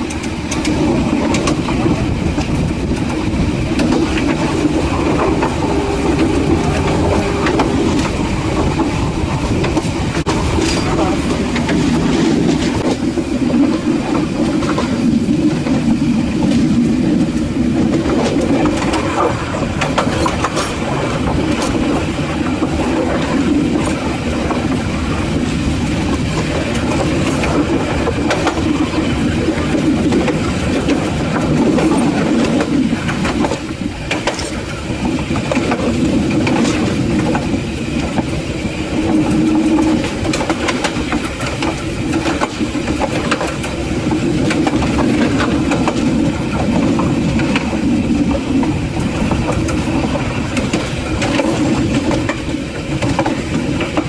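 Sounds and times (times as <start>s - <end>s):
train rumbling on track: 0.0s - 54.0s
wheels clicking over rail joints: 0.0s - 54.0s.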